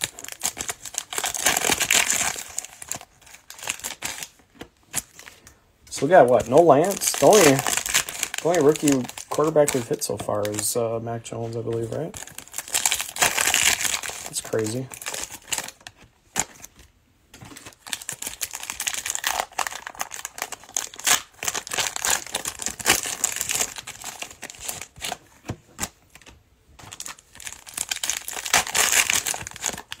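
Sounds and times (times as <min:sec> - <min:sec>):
plastic wrapper crinkling: 0:00.0 - 0:30.0.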